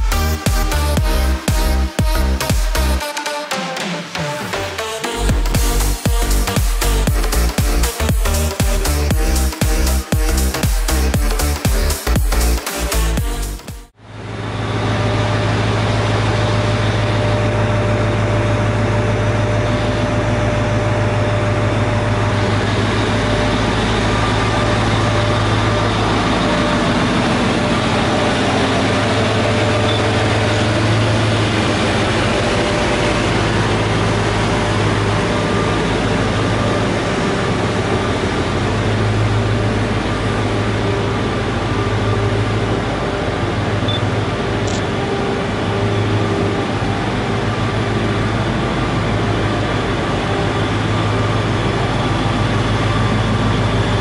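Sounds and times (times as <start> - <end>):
diesel engines idling: 0.0 - 3.1, 4.1 - 54.0.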